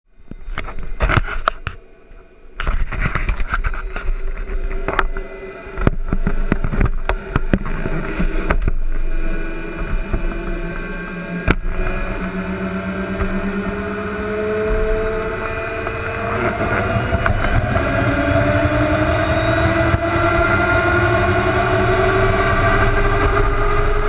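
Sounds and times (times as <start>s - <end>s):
model jet turbine whine: 0.1s - 24.0s
microphone rumble: 2.6s - 23.8s.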